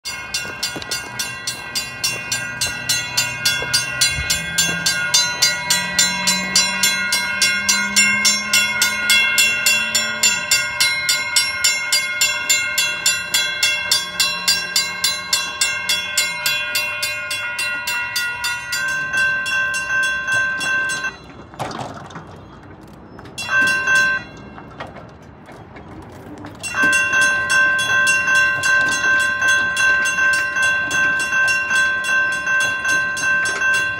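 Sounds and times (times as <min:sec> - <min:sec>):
railroad crossing bell ringing: 0:00.0 - 0:21.6, 0:23.3 - 0:25.1, 0:26.5 - 0:33.9.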